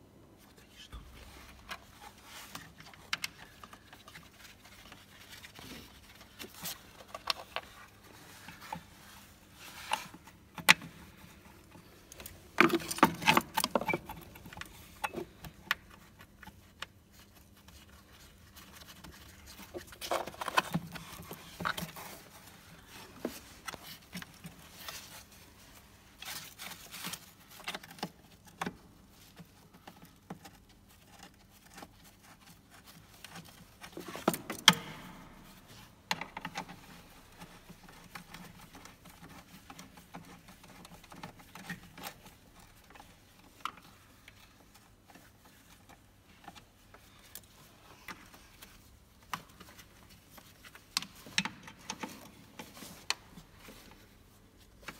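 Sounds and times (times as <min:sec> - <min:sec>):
hands handling plastic parts: 0:00.8 - 0:54.9.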